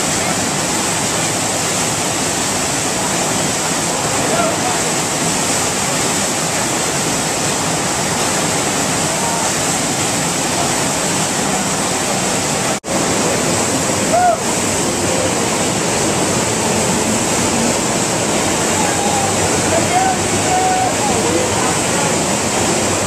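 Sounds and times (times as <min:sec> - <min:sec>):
water rushing over wave ride: 0:00.0 - 0:23.0.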